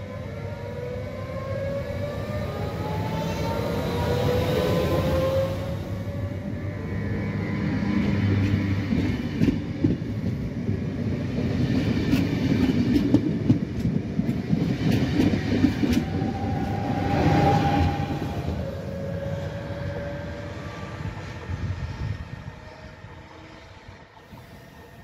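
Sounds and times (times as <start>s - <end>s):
train rolling past: 0.0s - 25.0s.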